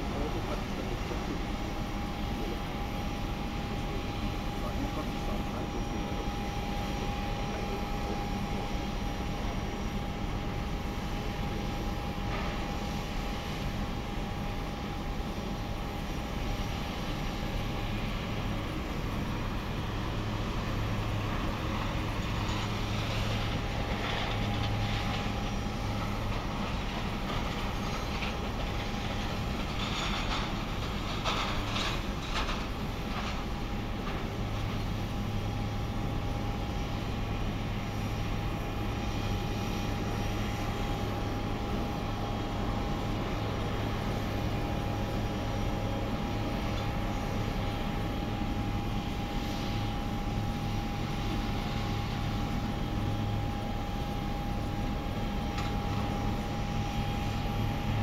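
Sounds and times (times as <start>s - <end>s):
constant low hum: 0.0s - 58.0s
high whine of aircraft: 0.0s - 58.0s.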